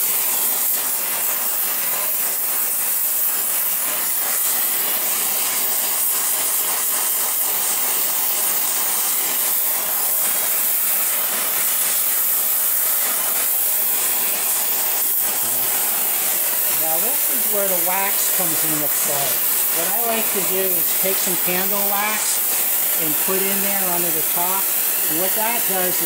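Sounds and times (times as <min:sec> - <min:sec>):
gas torch flame hissing: 0:00.0 - 0:26.0.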